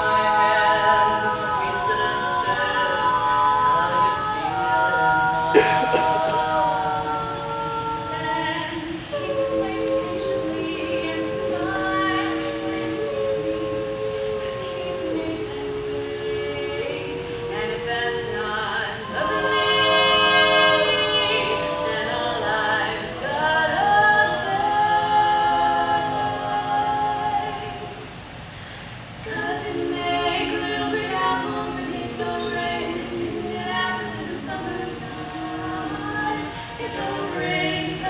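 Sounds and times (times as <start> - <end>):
women singing in harmony: 0.0 - 38.0.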